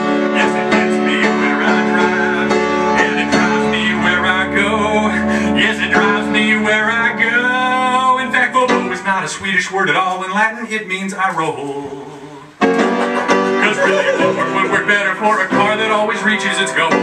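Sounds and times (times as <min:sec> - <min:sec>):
upright piano playing: 0:00.0 - 0:11.1, 0:12.6 - 0:17.0.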